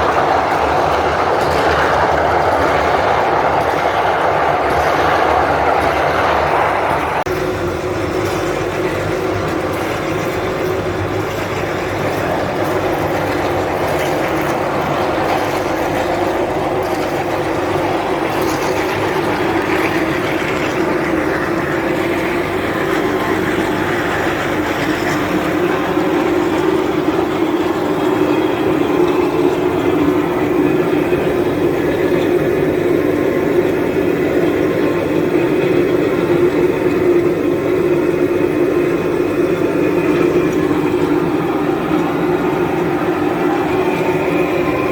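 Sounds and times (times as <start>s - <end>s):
chain saw and engine drone: 0.0s - 44.9s.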